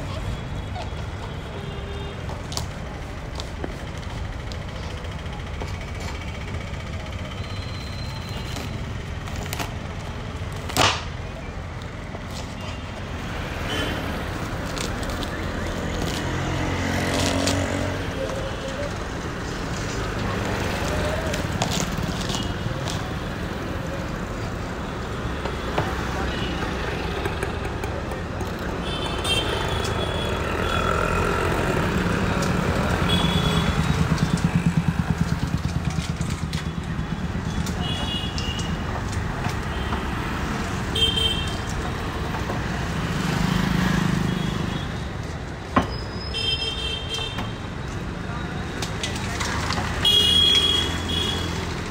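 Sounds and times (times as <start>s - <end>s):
city traffic engines: 0.0s - 51.9s.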